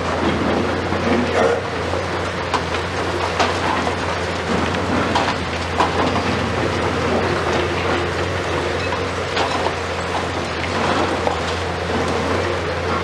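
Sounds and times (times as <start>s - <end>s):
excavator engine and hydraulics: 0.0s - 13.0s
concrete cracking and clattering: 0.2s - 13.0s.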